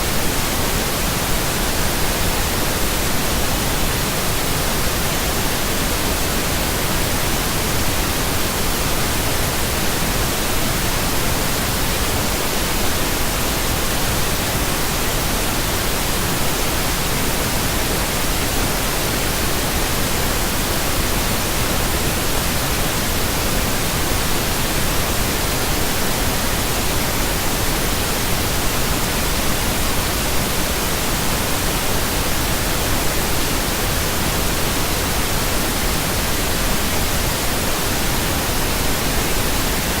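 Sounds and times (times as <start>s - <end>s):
pink noise hiss: 0.0s - 40.0s.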